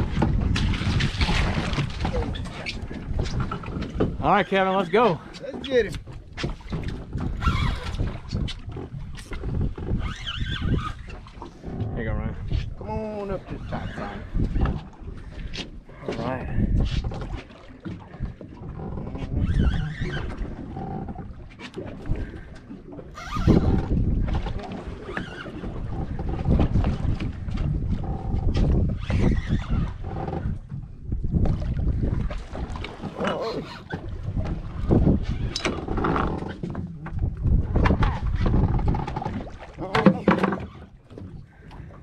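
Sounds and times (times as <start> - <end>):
water washing against boat hull: 0.0 - 42.0
wind buffeting microphone: 0.0 - 42.0.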